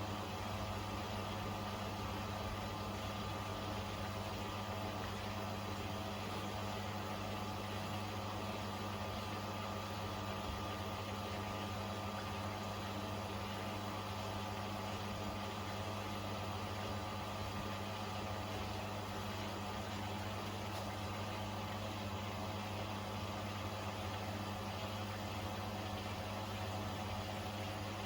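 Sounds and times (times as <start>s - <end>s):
washing machine humming: 0.0s - 28.0s.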